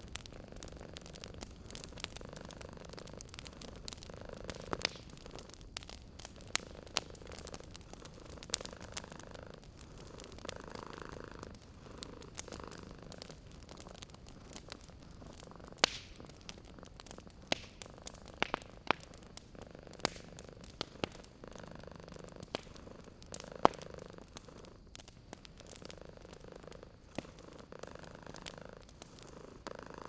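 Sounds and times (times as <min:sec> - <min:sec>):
cat purring: 0:00.0 - 0:30.0
wood fire crackling: 0:00.0 - 0:30.0.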